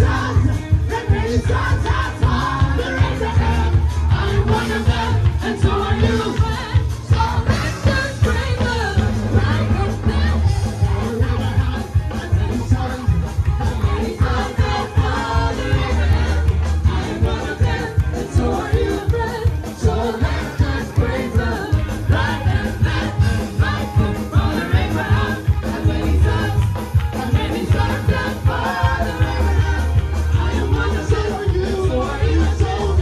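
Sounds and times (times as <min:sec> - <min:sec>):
gospel band playing: 0:00.0 - 0:33.0
group of voices singing: 0:00.0 - 0:33.0.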